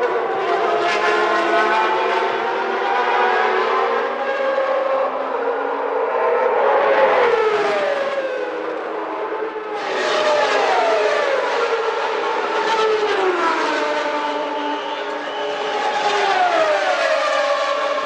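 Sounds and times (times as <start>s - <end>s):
racing cars passing at high revs: 0.0s - 18.0s.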